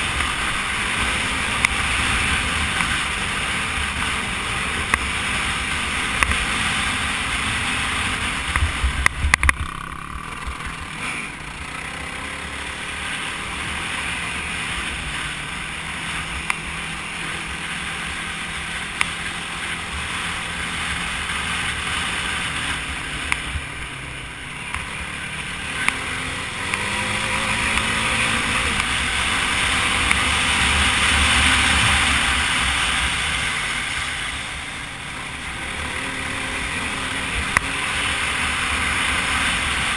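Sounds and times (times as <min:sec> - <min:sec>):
quad engine under throttle: 0:00.0 - 0:39.9
wind and tyre noise: 0:00.0 - 0:39.9.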